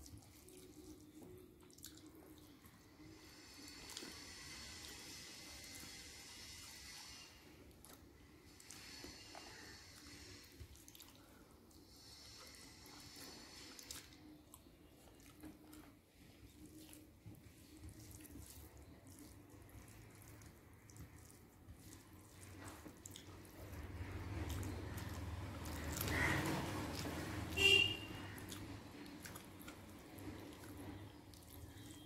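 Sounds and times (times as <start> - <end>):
chewing: 0.0 - 6.0, 6.6 - 27.5, 28.1 - 32.0
fingers mixing wet food: 0.0 - 32.0.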